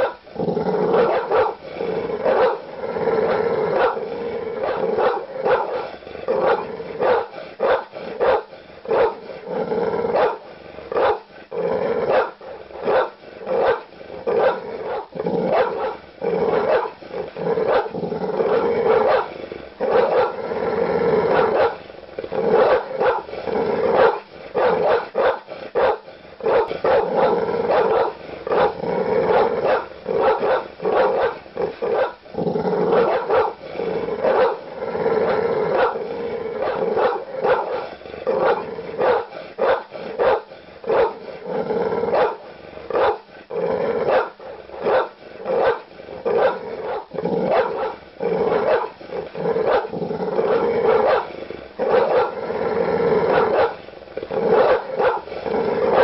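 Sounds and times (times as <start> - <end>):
large dogs barking aggressively: 0.0 - 56.0.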